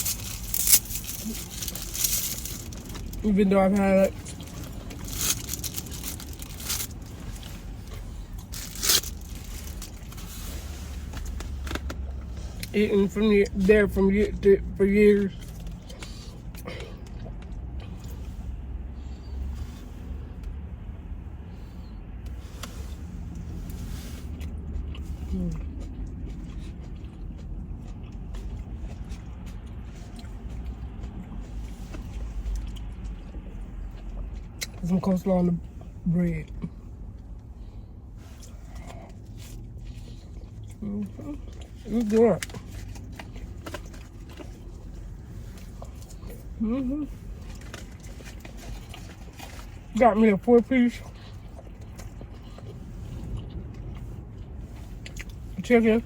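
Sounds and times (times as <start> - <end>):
chewing with crunching: 0.0 - 56.0
steady low hum: 0.0 - 56.0.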